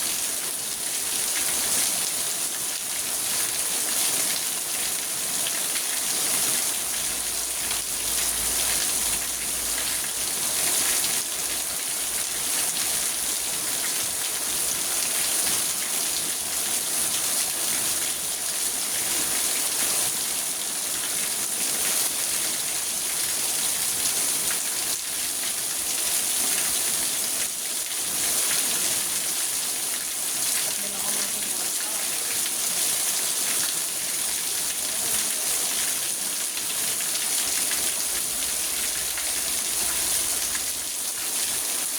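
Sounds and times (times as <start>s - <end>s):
rain on a car roof: 0.0s - 41.9s.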